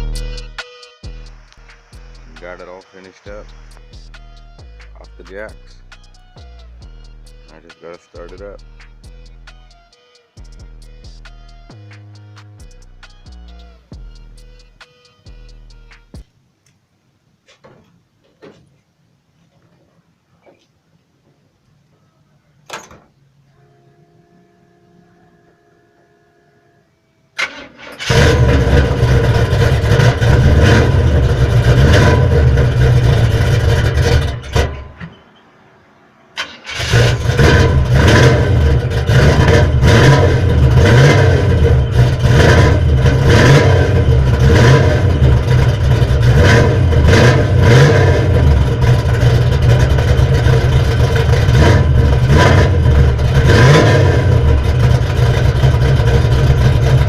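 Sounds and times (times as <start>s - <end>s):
car engine idling: 0.0s - 16.3s, 23.2s - 57.0s.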